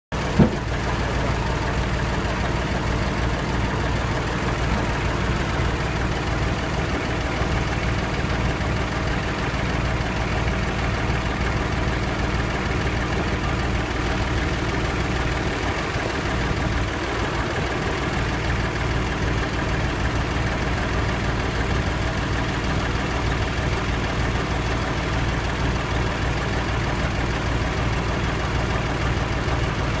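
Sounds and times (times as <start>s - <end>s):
diesel truck engine idling: 0.1s - 30.0s.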